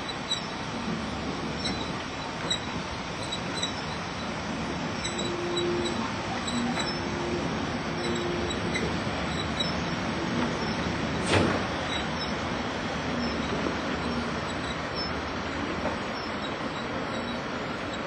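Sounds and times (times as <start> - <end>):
locomotive rolling on track: 0.0 - 18.0.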